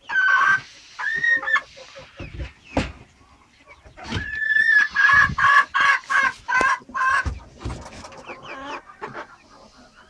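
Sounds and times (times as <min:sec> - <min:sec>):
chicken calling: 0:00.0 - 0:10.0
chicken clucking: 0:00.0 - 0:10.0.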